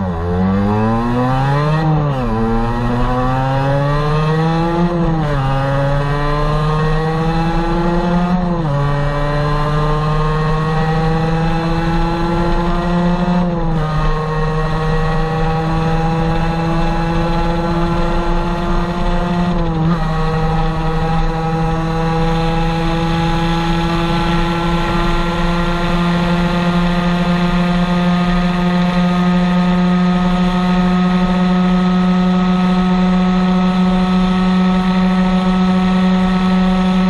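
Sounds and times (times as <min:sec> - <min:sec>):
two-stroke motorcycle engine: 0:00.0 - 0:37.0.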